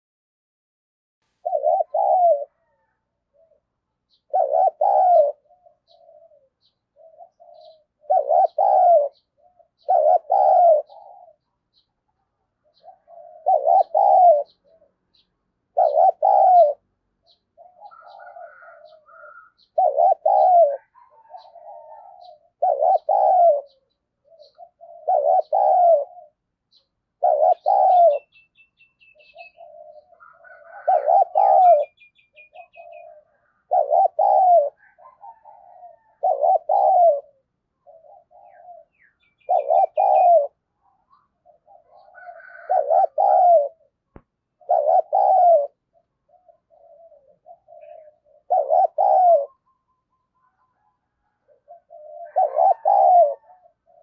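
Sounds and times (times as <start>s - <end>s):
dove cooing: 1.4s - 54.0s
small birds chirping: 1.4s - 54.0s.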